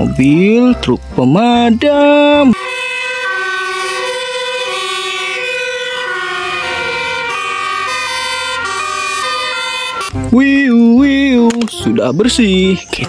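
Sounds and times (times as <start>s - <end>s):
electronic fire engine siren: 1.4s - 12.9s.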